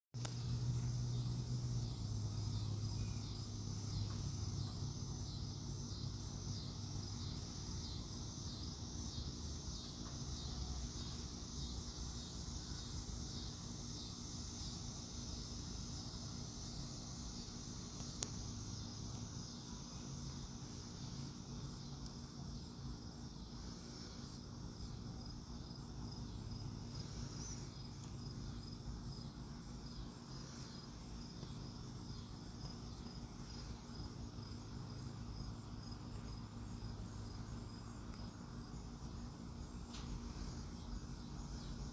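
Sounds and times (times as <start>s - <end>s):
insects chirring: 0.2s - 41.9s
low steady hum: 0.2s - 41.9s.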